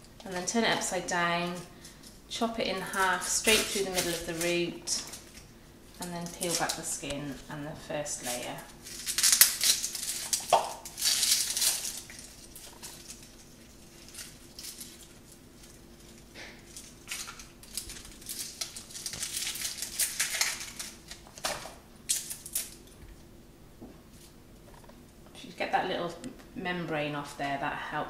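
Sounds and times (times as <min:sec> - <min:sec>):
onion skin crackling: 0:00.0 - 0:23.3.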